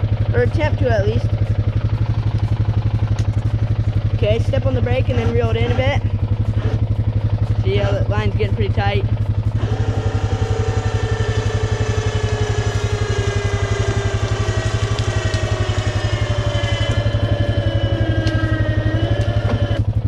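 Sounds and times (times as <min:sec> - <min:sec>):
electric winch motor whine: 0:00.0 - 0:20.0
engine idling: 0:00.0 - 0:20.0.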